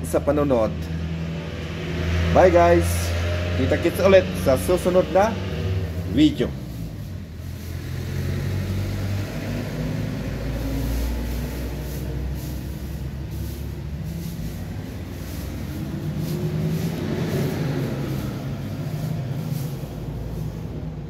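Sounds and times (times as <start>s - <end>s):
engine running: 0.8s - 21.0s.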